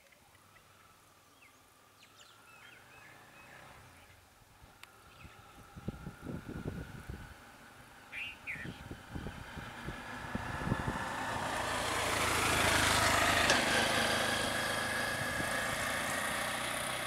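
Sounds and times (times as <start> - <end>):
small vehicle engine running: 1.4 - 17.0.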